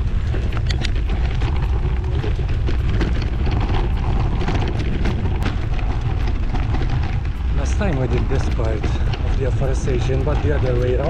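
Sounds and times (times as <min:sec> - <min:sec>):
bicycle tyres on gravel: 0:00.0 - 0:11.0
wind buffeting microphone: 0:00.0 - 0:11.0.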